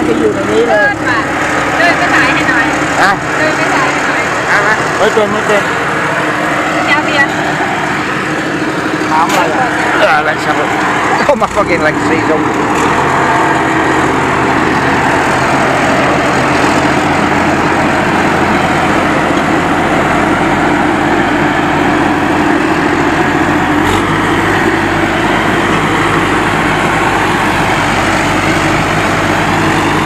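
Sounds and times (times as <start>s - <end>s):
harvesting machine engine din: 0.0s - 30.0s.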